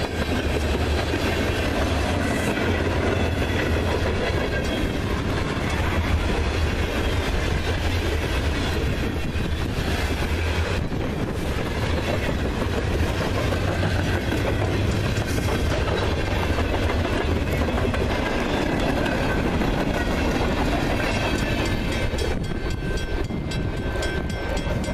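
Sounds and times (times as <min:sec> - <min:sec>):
wheels clacking over rail joints: 0:00.0 - 0:23.2
freight train rumble: 0:00.0 - 0:24.9.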